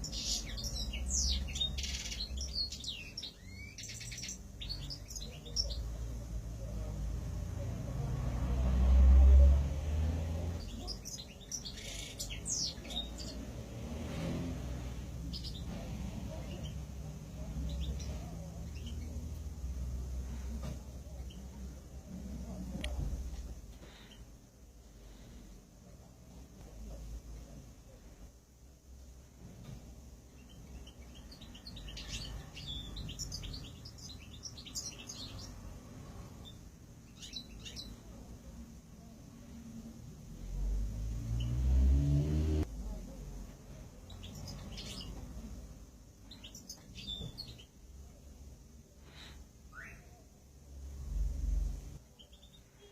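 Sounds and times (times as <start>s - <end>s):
cage birds chirping: 0.0s - 52.9s.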